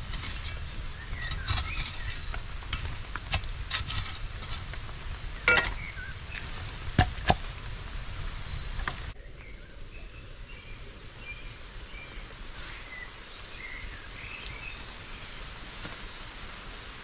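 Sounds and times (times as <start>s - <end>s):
campfire crackling and popping: 0.0s - 17.0s
rustling of sticks and leaves: 0.0s - 17.0s.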